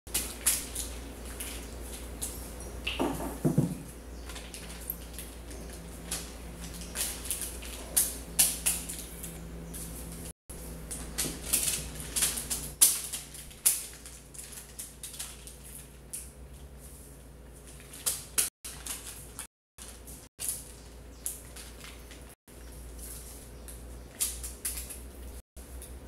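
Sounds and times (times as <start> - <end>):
paper crackling and rustling: 4.2 - 25.4.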